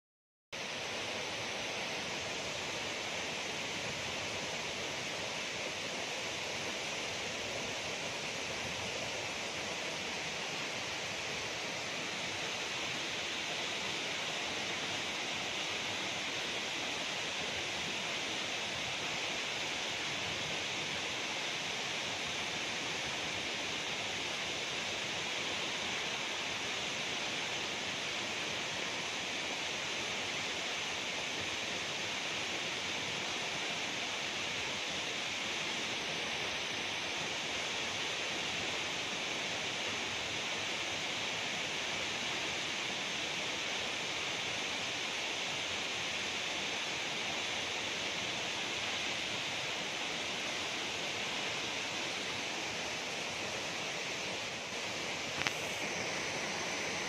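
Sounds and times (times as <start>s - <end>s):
waterfall rushing onto boulders: 0.6s - 57.0s.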